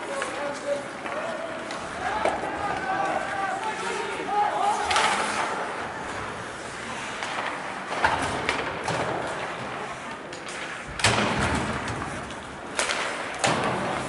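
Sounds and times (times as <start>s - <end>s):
knocks against rink boards: 0.0s - 3.9s, 4.6s - 5.8s, 7.0s - 14.0s.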